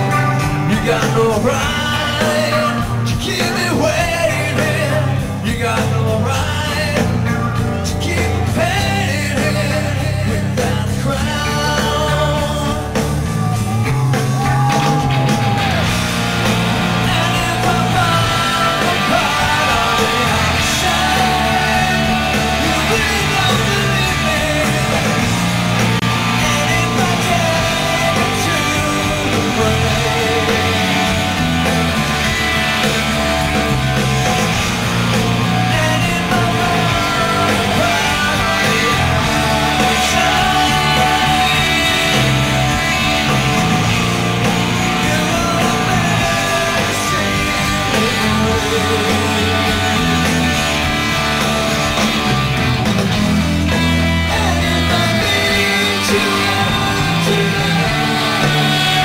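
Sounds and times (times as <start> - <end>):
live rock band playing: 0.0 - 59.0
male lead vocal: 0.0 - 59.0.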